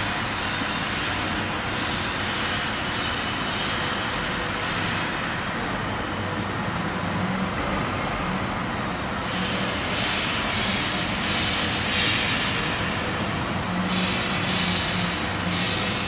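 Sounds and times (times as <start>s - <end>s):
machine mechanical drone: 0.0s - 16.0s.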